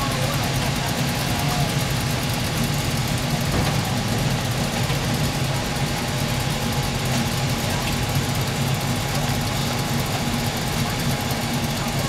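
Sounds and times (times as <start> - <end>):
car engines idling: 0.0 - 12.0.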